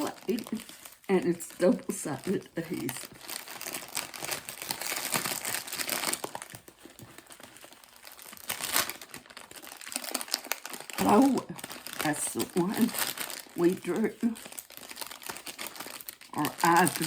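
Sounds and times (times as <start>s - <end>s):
plastic crinkling: 0.0s - 17.0s.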